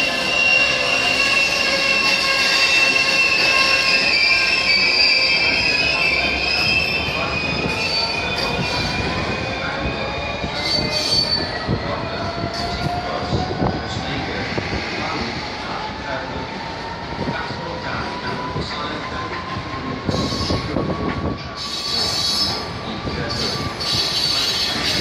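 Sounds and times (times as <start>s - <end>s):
train wheels squealing on track: 0.0s - 25.0s.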